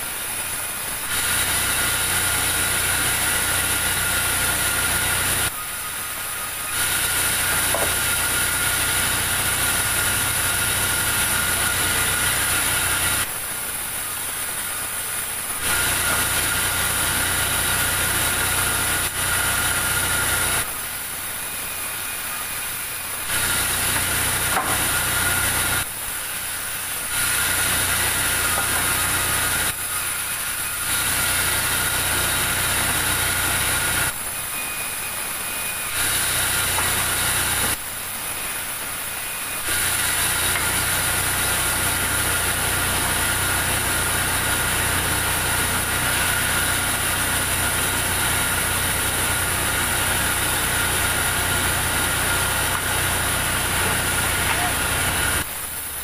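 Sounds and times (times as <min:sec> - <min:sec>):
band saw cutting timber: 0:00.0 - 0:56.0.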